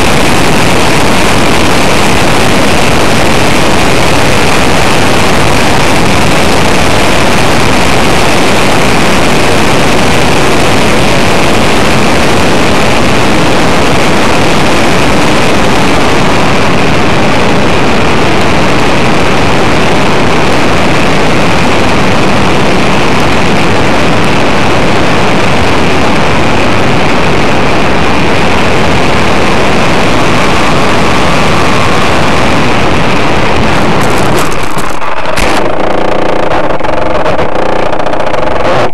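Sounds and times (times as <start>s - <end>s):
model plane motor and propeller: 0.0s - 38.9s.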